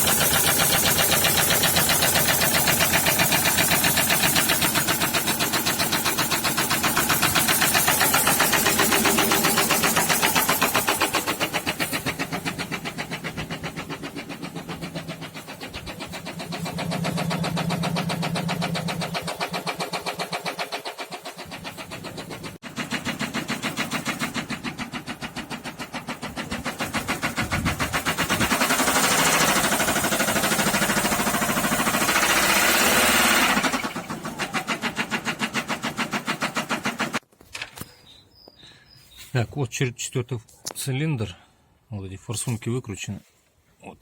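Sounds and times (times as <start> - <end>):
diesel engine knocking: 0.0 - 37.2.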